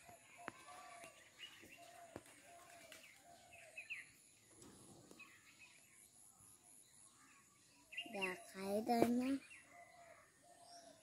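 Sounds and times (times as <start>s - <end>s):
bird chirps: 0.0s - 11.0s.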